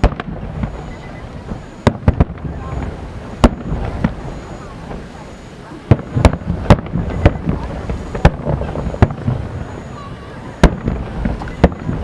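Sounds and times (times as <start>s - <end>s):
firework shells booming: 0.0s - 12.0s
murmur of voices: 0.0s - 12.0s.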